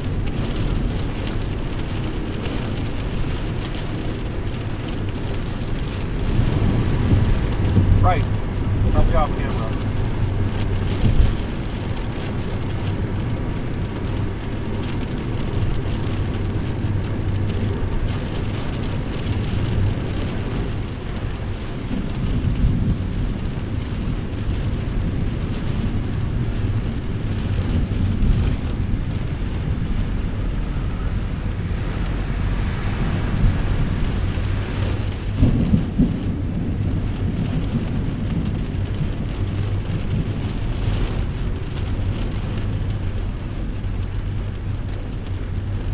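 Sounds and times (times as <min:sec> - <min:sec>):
thunder rolling: 0:00.0 - 0:43.2
steady rain: 0:00.0 - 0:45.9.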